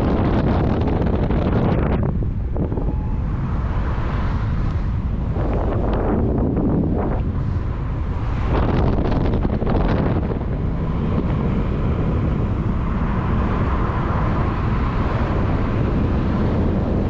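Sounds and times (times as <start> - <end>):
low engine rumble: 0.0 - 17.0
wind buffeting microphone: 0.0 - 17.0.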